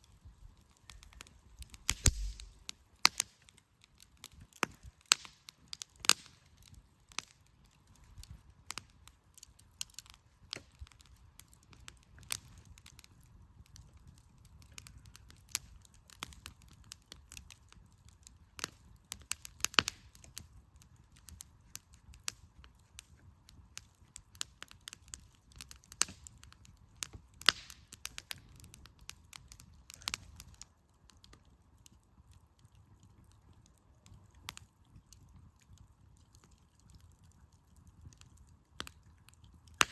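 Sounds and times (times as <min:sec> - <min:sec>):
campfire crackling and popping: 0:00.0 - 0:39.9
faint low fire hiss: 0:00.0 - 0:39.9.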